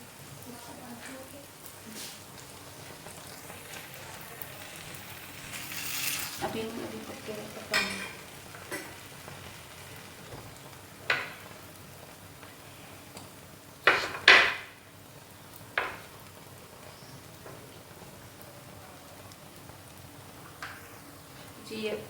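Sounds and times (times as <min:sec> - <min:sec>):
flatbread sizzling on a pan: 0:00.0 - 0:22.0.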